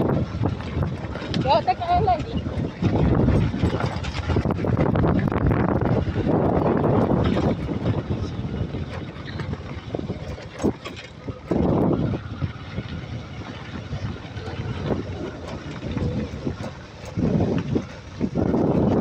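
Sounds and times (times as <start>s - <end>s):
knocks and rattles from bumps: 0.0s - 19.0s
motorcycle riding on gravel: 0.0s - 19.0s
wind buffeting microphone: 0.0s - 19.0s.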